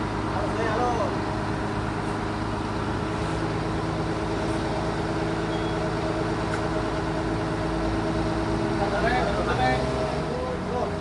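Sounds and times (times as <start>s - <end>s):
sawmill machinery engine droning: 0.0s - 11.0s.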